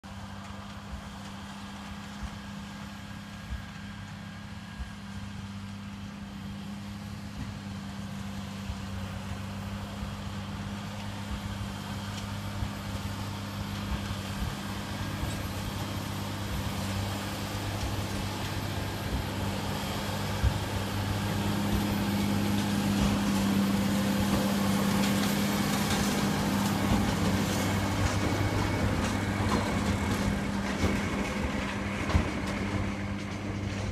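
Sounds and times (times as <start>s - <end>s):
hay baler working: 0.0s - 33.9s
tractor engine hum: 0.0s - 33.9s.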